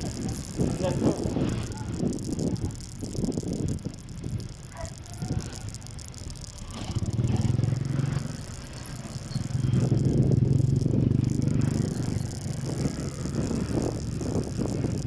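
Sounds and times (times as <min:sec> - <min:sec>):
motorcycle engine drone: 0:00.0 - 0:15.0
wind rumble on microphone: 0:00.0 - 0:15.0.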